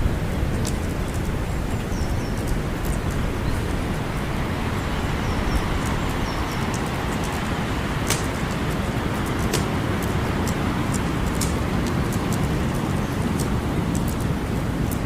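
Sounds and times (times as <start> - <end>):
fire low rumble: 0.0 - 15.0
campfire crackling and popping: 0.1 - 15.0.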